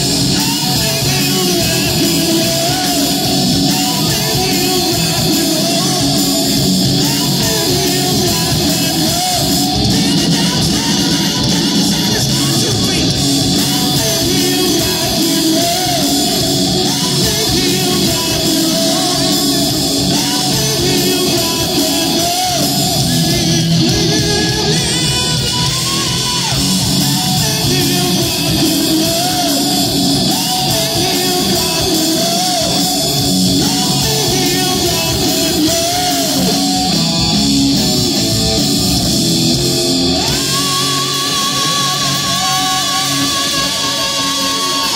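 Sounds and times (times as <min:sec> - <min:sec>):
live rock band playing: 0:00.0 - 0:44.9
man singing: 0:00.0 - 0:44.9.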